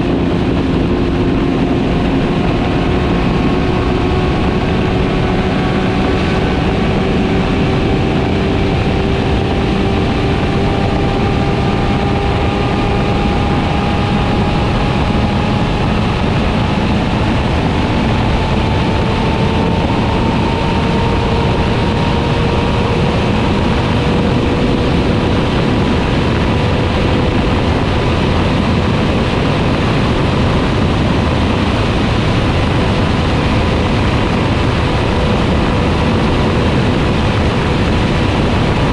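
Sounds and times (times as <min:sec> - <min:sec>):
motorcycle engine revving: 0:00.0 - 0:38.9
wind and road rush: 0:00.0 - 0:38.9.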